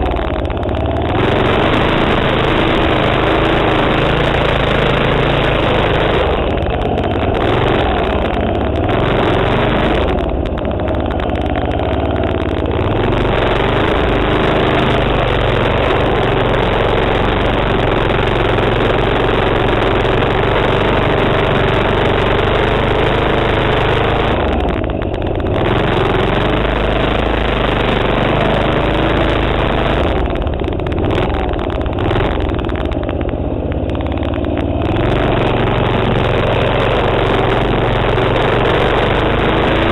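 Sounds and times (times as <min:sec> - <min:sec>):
small minibike engine revving: 0:00.0 - 0:39.9.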